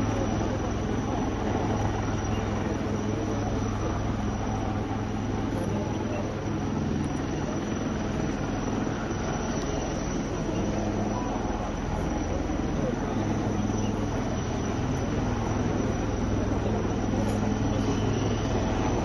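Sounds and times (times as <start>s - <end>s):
broad rushing noise: 0.0s - 19.0s
engine drone: 0.0s - 19.0s.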